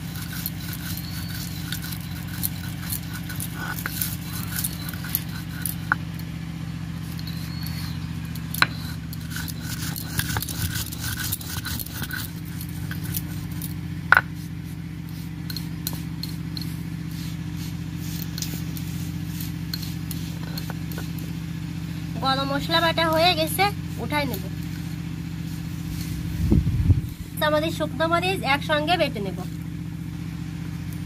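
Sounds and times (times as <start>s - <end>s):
spices grinding: 0.0s - 26.4s.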